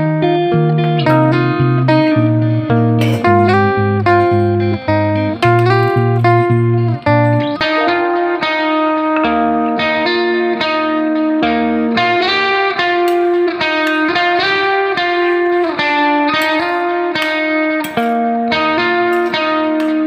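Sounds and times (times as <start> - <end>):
guitar playing sustained notes: 0.0 - 20.0.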